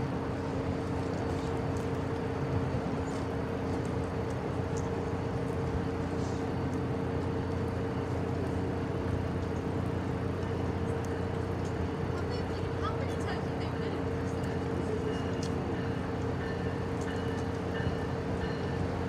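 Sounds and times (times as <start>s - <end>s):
train humming at platform: 0.0s - 19.0s.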